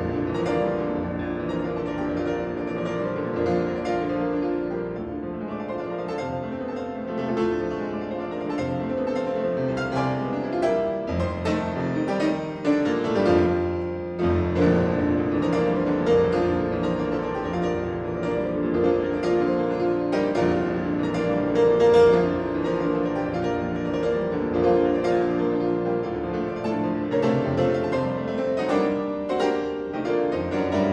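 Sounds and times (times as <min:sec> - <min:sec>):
solo piano classical piece: 0:00.0 - 0:30.9.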